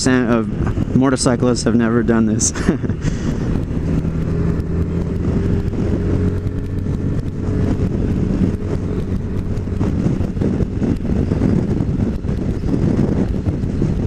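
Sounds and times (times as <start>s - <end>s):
wind noise on microphone: 0.0s - 14.0s
scooter engine running: 2.4s - 14.0s.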